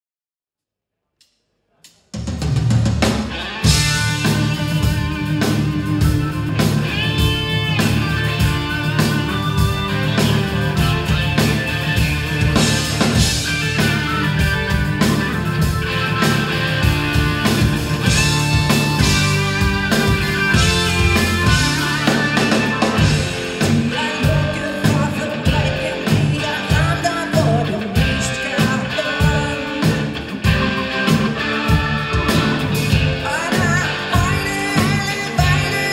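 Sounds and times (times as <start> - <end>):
drums keeping a steady beat: 2.1 - 35.9
live rock band playing: 2.5 - 35.9
electric guitars: 3.0 - 35.9.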